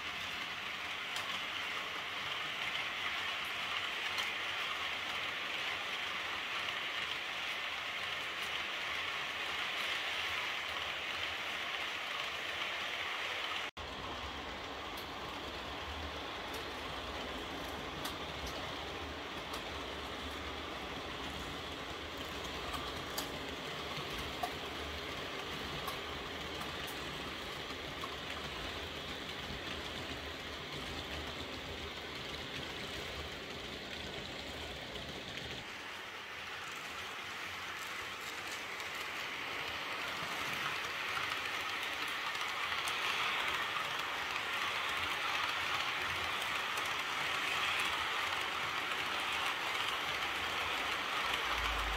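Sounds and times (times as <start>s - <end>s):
model train rolling on track: 0.0s - 51.9s
wheels clicking on rails: 0.0s - 51.9s.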